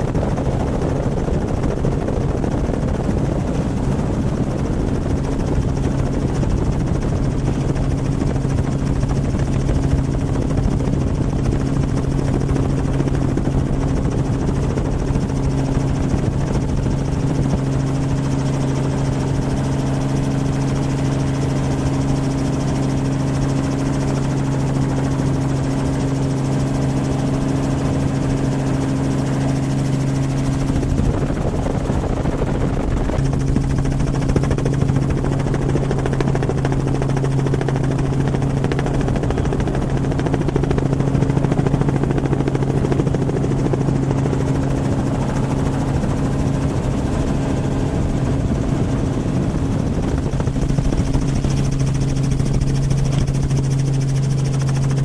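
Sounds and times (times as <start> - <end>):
helicopter rotor and engine noise: 0.0 - 55.0.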